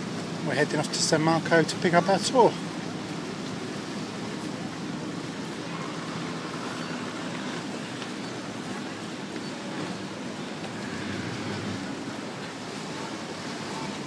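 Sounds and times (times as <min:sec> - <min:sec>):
motorboat engines humming: 0:00.0 - 0:14.0.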